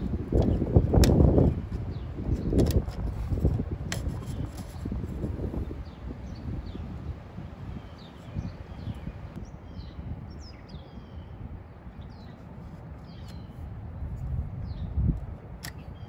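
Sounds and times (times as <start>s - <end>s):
small birds chirping: 0.0s - 11.4s, 12.0s - 13.7s.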